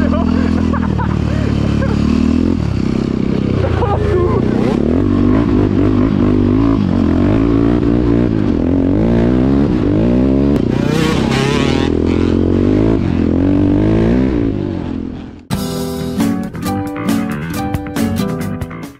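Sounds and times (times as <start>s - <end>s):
motorcycle engine revving under load: 0.0s - 15.5s.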